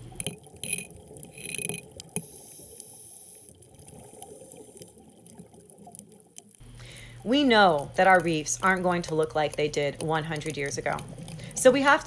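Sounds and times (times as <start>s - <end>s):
faint crackling clicks: 0.0s - 11.8s
underwater water noise: 0.0s - 12.0s.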